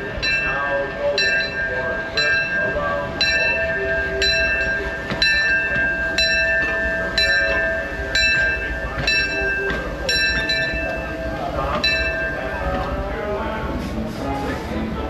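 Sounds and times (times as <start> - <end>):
locomotive bell ringing: 0.0 - 13.5
low rumble of train: 0.0 - 15.0.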